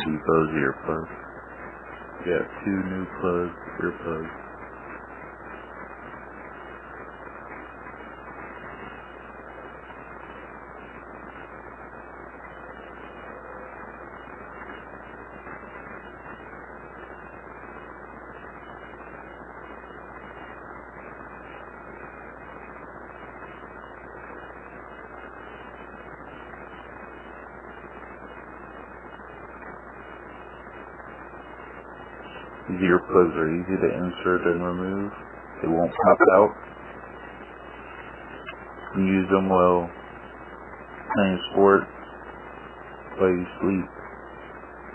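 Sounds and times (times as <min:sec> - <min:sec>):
low electrical hum: 0:00.0 - 0:44.9
steady background hiss: 0:00.0 - 0:44.9.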